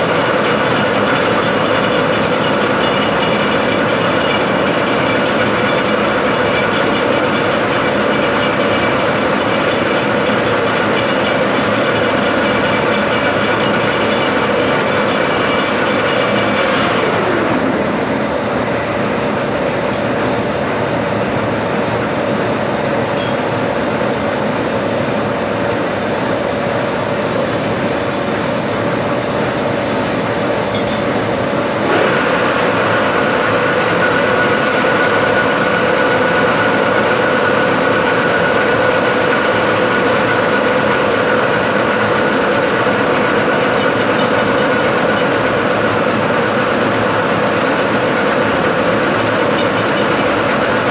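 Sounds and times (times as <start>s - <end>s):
machine tool running with whine: 0.0s - 50.9s.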